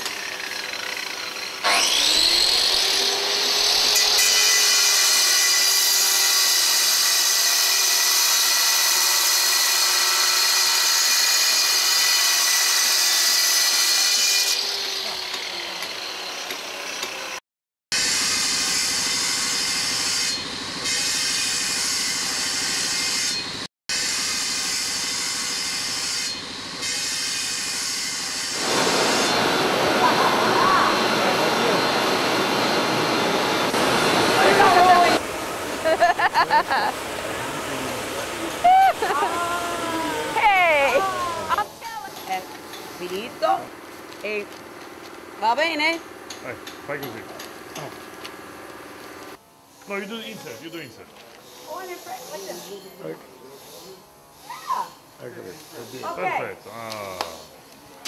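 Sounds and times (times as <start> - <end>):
angle grinder cutting marble: 0.0 - 17.4, 18.0 - 44.5, 49.3 - 57.6.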